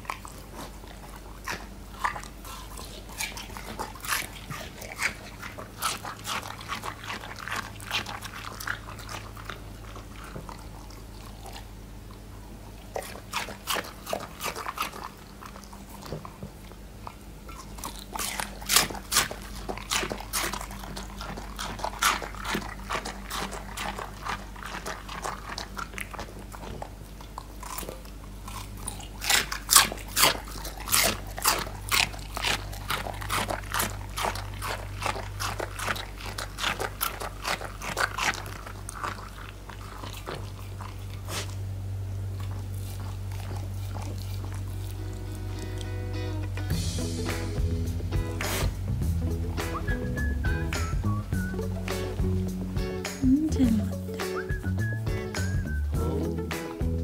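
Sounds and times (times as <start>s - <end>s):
dog chewing watermelon: 0.0s - 57.0s.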